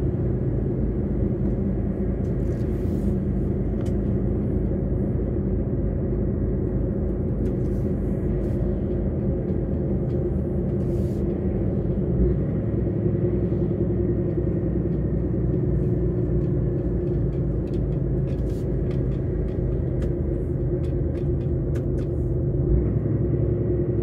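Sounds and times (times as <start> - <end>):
truck diesel engine running: 0.0 - 24.0
tyre and road noise: 0.0 - 24.0.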